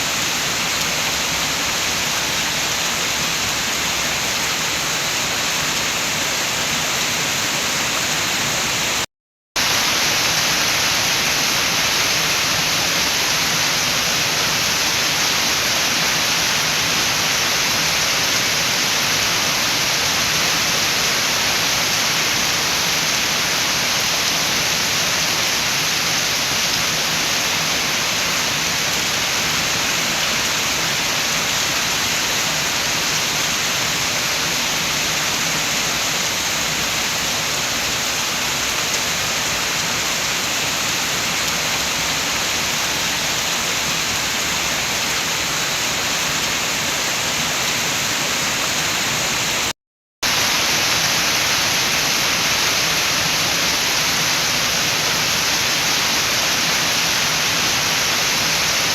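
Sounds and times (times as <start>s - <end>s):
steady rain: 0.0s - 58.9s
wind: 0.0s - 58.9s.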